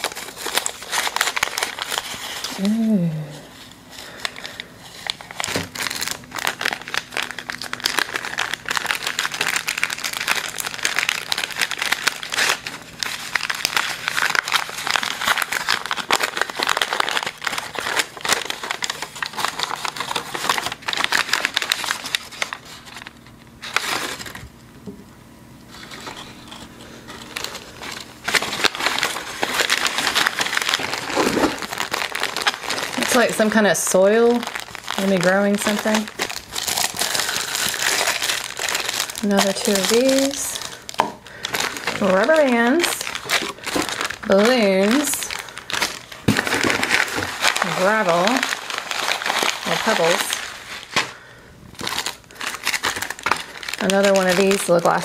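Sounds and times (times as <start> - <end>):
packing paper crinkling: 0.0 - 24.6, 25.7 - 55.0.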